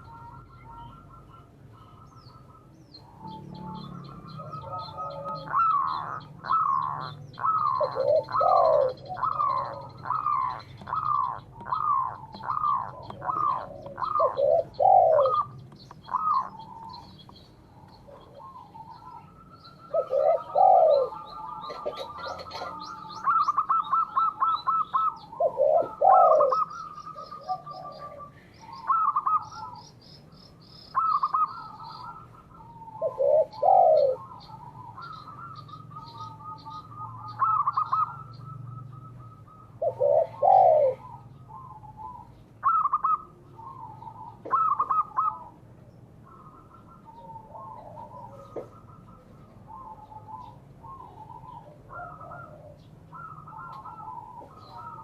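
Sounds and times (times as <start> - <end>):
small bird chirping: 0.0 - 51.7
doves cooing: 0.0 - 55.0.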